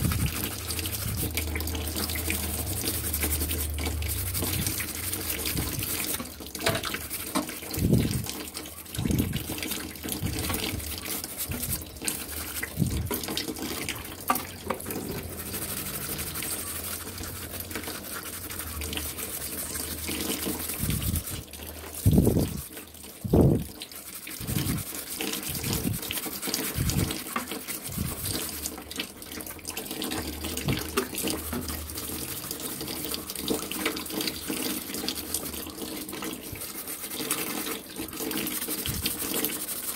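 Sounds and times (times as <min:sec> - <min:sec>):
scrub brush scouring metal: 0:00.0 - 0:39.9
water sloshing and dripping: 0:00.0 - 0:39.9.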